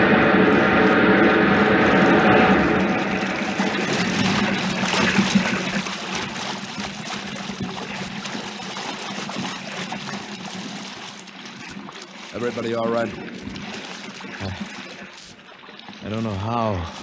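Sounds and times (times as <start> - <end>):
low steady hum: 0.0 - 17.0
wave breaking and splashing: 0.0 - 17.0.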